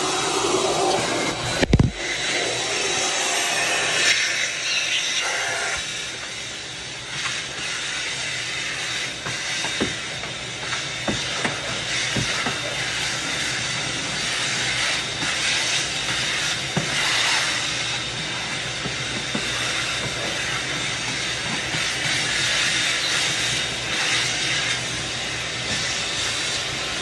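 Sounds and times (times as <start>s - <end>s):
steady hissing rush: 0.0s - 27.0s.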